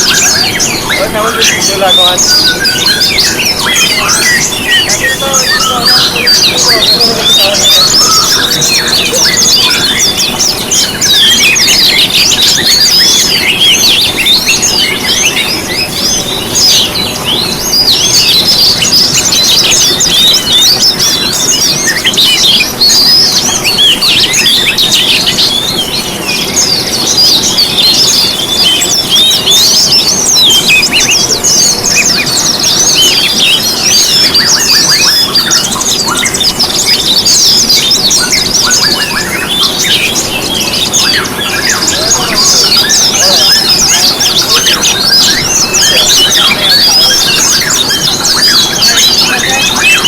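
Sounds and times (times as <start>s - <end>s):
songbirds chirping and trilling: 0.0s - 50.0s.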